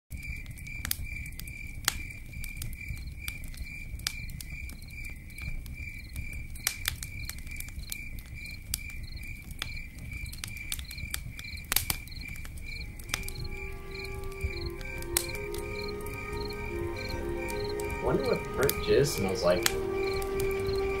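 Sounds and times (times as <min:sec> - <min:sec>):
campfire crackling and popping: 0:00.1 - 0:21.0
cricket chirping: 0:00.1 - 0:21.0.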